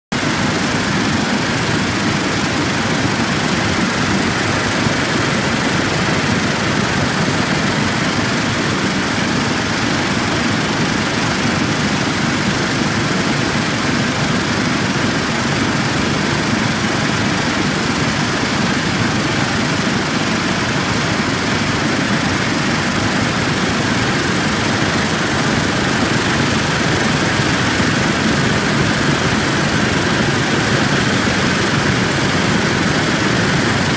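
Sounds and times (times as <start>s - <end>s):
vibratory screen running: 0.2s - 33.9s.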